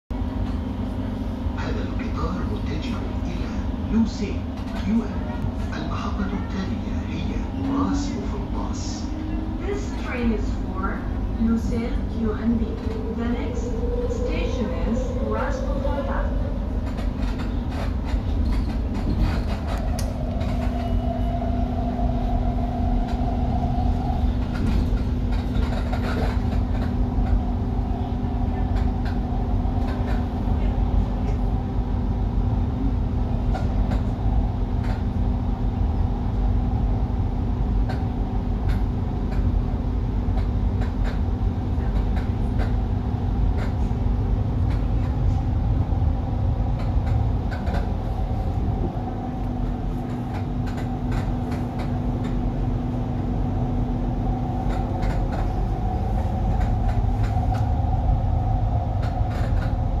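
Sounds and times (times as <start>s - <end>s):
train rumbling along track: 0.1s - 60.0s.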